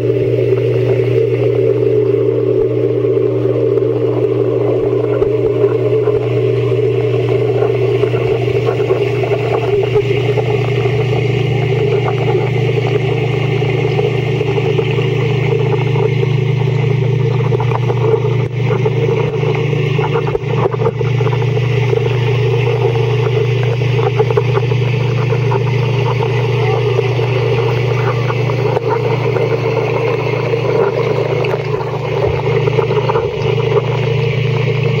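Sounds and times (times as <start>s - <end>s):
underwater low hum: 0.0s - 35.0s
underwater rushing noise: 0.0s - 35.0s.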